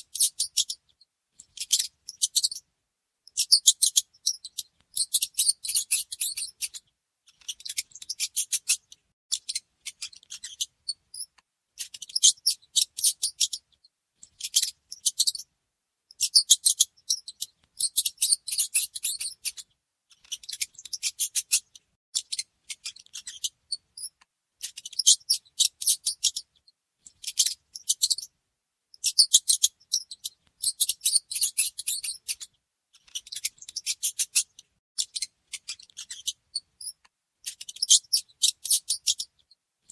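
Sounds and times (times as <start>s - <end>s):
mice squeaking: 0.0s - 2.6s, 3.3s - 15.5s, 16.1s - 28.3s, 29.0s - 39.9s.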